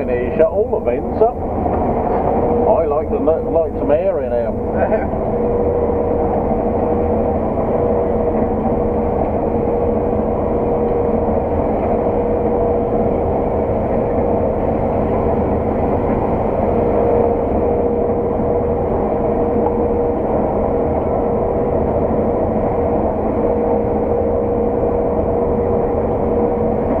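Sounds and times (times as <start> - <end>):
constant machine whine: 0.0 - 27.0
engine and drivetrain drone: 0.0 - 27.0.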